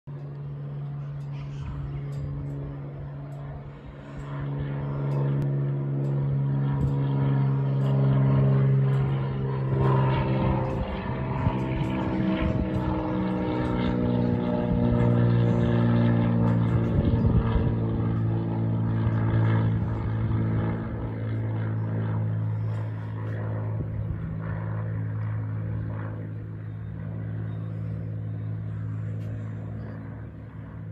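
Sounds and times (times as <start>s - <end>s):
propeller plane flying overhead: 0.0s - 30.9s.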